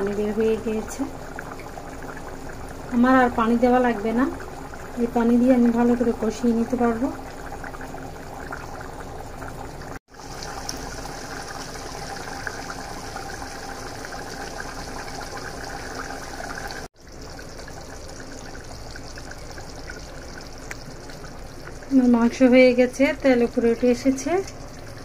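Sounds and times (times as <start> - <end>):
curry bubbling in a frying pan: 0.0 - 25.0.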